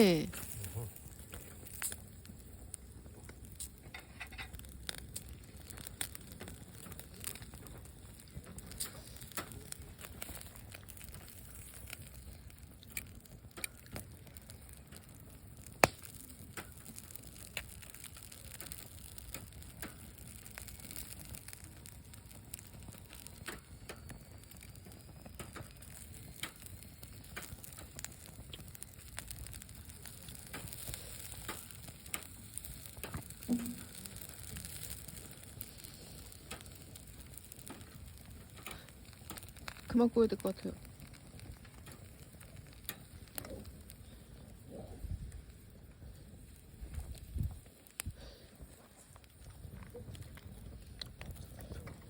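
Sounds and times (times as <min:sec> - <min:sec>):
charcoal grill crackling: 0:00.0 - 0:52.0.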